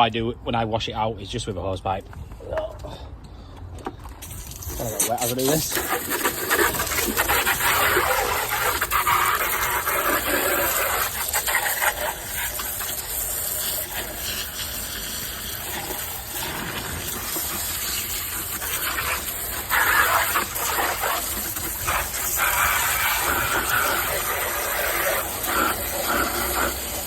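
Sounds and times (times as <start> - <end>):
hose water spraying into plastic box: 4.2 - 27.0.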